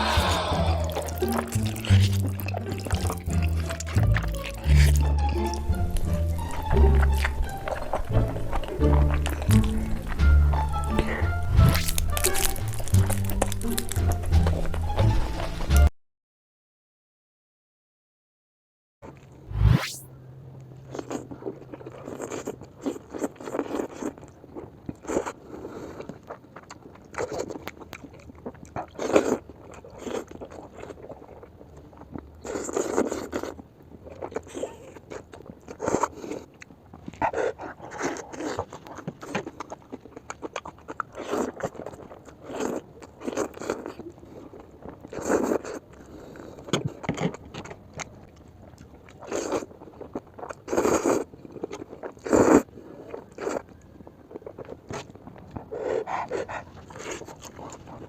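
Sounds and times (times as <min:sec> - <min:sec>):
slurping and chewing noodles: 0:00.0 - 0:15.9, 0:20.8 - 0:58.0.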